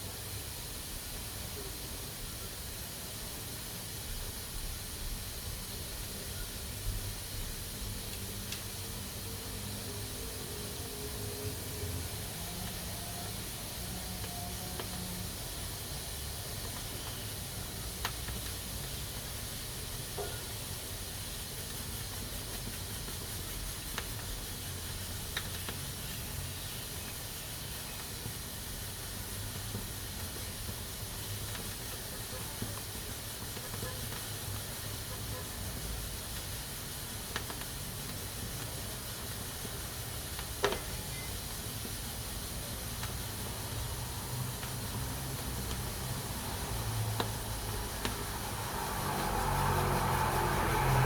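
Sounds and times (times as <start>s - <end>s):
pressure cooker hissing: 0.0s - 51.0s.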